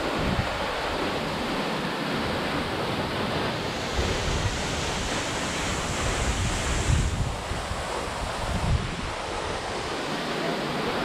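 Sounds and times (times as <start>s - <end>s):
waterfall rushing: 0.0s - 11.0s
wind rumble on microphone: 0.0s - 11.0s.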